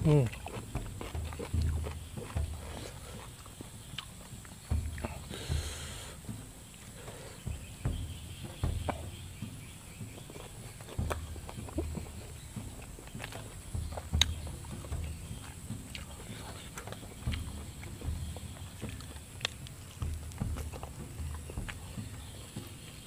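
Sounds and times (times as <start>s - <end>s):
dull bumps: 0.0s - 23.0s
person chewing and crunching: 0.0s - 23.0s.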